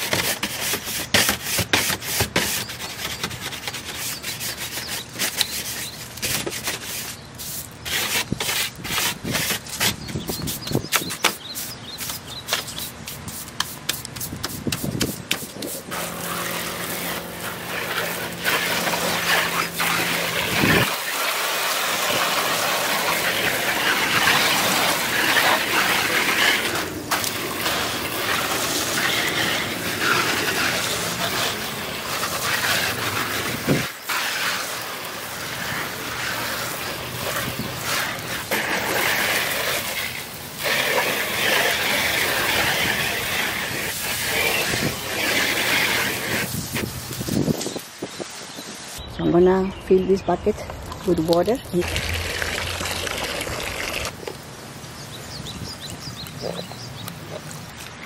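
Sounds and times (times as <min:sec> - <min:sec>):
hose spraying water on a shed: 0:00.0 - 0:49.0, 0:50.9 - 0:58.0.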